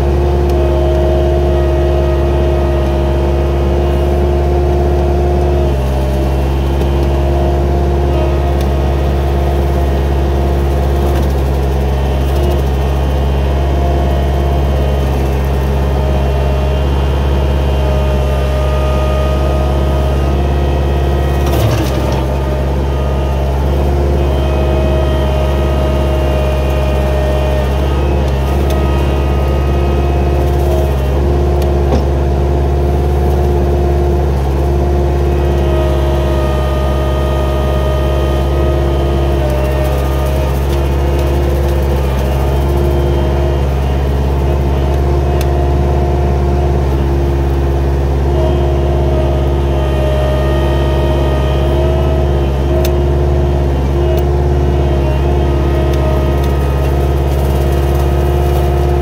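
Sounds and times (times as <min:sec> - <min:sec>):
engine running under load: 0:00.0 - 0:59.0
hydraulic brush cutter whine: 0:00.0 - 0:59.0.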